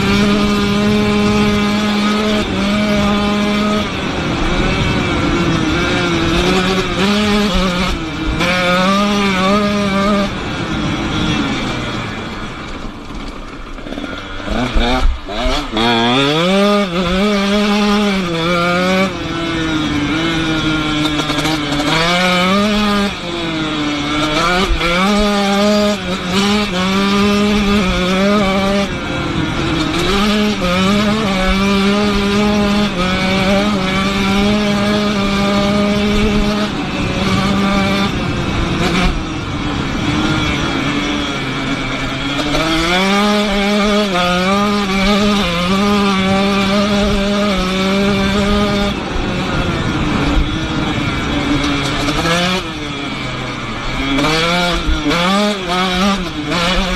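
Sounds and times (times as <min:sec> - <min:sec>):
dirt bike engine running: 0:00.0 - 0:56.9
steady rush of noise: 0:00.0 - 0:56.9.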